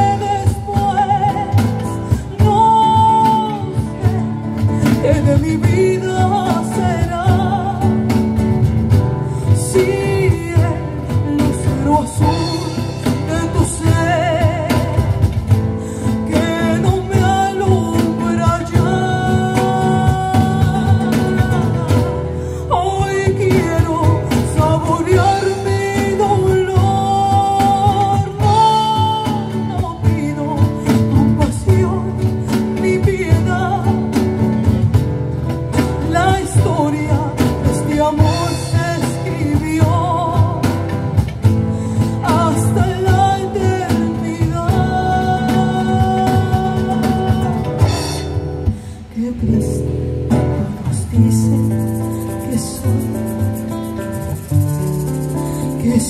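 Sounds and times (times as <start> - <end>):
acoustic guitars: 0.0 - 56.0
cajon beat: 0.0 - 56.0
woman singing: 0.0 - 56.0.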